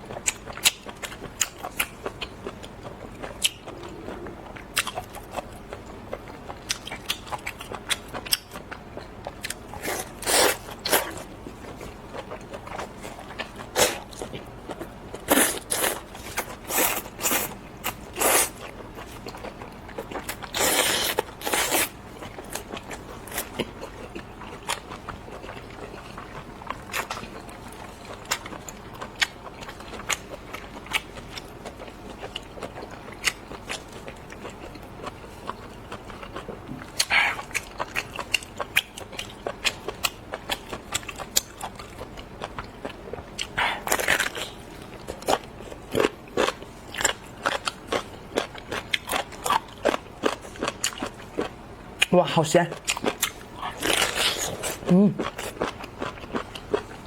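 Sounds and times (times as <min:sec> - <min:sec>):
chewing crunches: 0:00.1 - 0:57.0.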